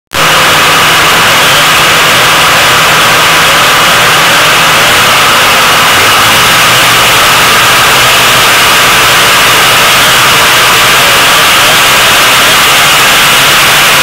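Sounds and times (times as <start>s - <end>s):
snowmobile engine idling: 0.2s - 14.0s.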